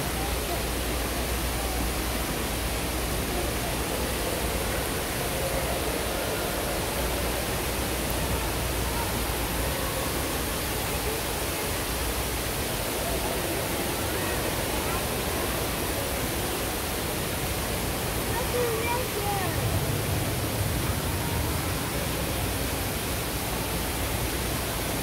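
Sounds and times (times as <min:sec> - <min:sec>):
faint voices murmuring: 0:00.0 - 0:25.0
steady rushing noise: 0:00.0 - 0:25.0.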